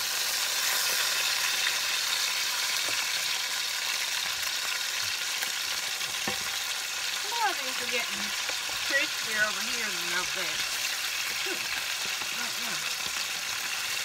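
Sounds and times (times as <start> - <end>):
meat sizzling in a skillet: 0.0 - 14.0.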